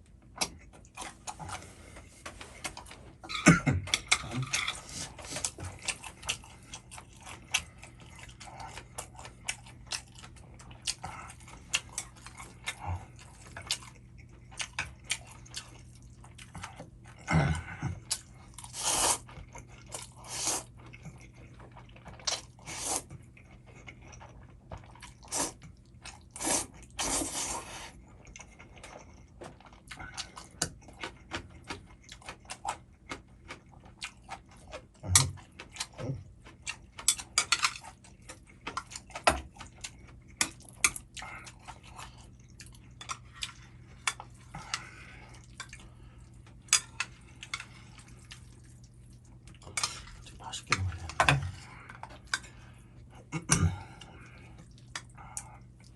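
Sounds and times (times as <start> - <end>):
wet chewing and mouth noises: 0.0 - 55.9.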